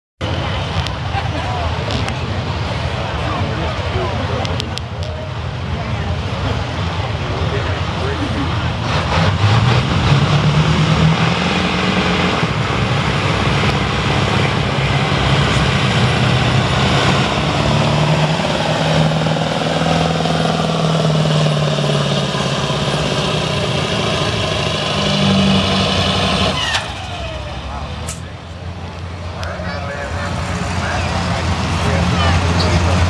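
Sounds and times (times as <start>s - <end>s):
diesel truck engine running: 0.2s - 33.0s.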